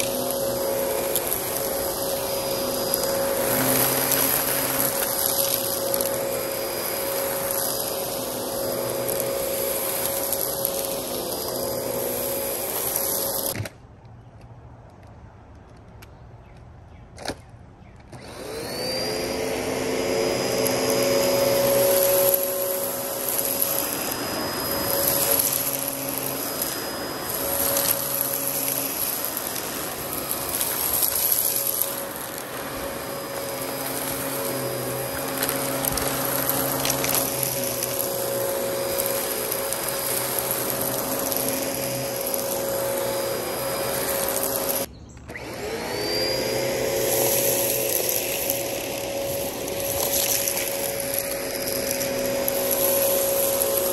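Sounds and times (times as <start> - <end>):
vacuum cleaner motor whine: 0.0 - 13.6, 18.1 - 53.9.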